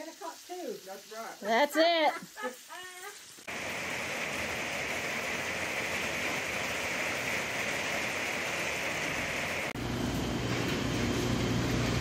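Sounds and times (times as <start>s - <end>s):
steady rain falling: 0.0s - 10.6s.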